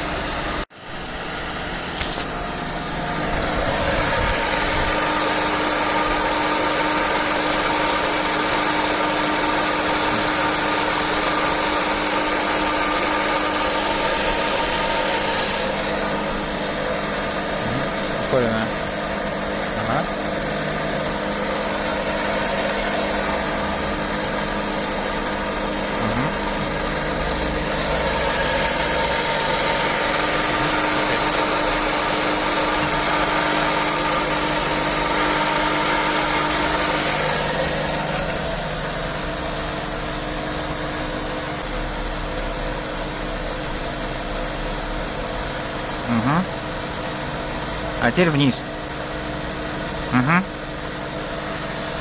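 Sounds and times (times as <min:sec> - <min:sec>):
milling machine mechanical whine: 0:00.0 - 0:52.0.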